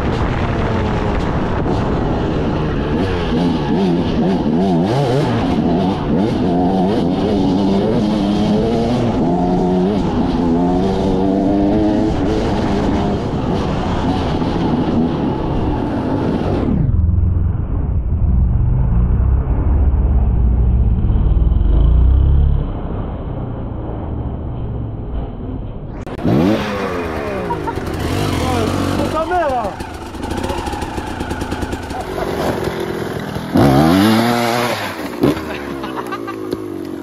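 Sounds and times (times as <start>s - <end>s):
wind rumble: 0.0s - 35.3s
motorcycle engine revving: 0.0s - 37.0s.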